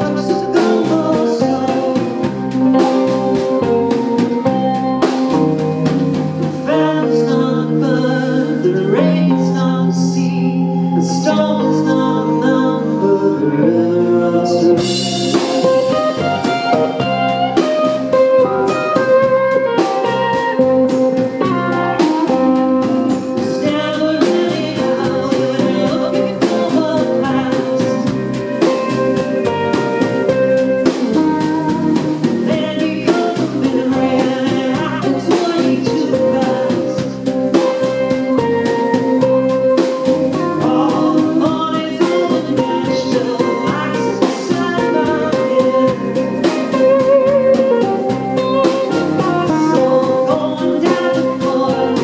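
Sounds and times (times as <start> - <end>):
live band playing: 0.0 - 52.0.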